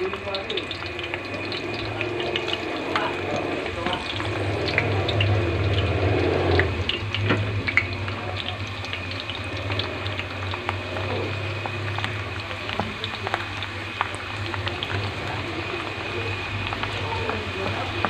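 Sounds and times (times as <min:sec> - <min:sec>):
peanuts deep-frying in oil: 0:00.0 - 0:18.0.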